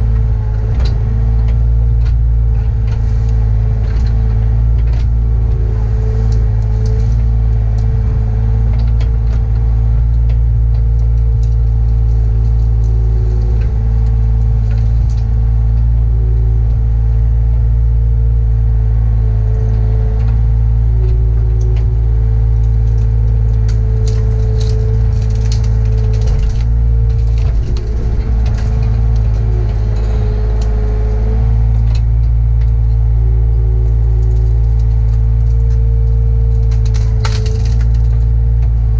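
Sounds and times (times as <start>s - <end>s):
excavator diesel engine: 0.0s - 38.9s
hydraulic whine: 0.0s - 38.9s
light clicks and cracks: 0.2s - 17.7s, 21.0s - 33.1s, 33.7s - 38.9s.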